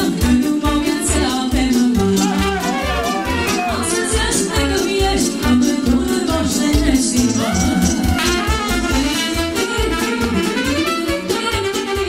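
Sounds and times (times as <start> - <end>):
folk dance music by a band: 0.0 - 12.0.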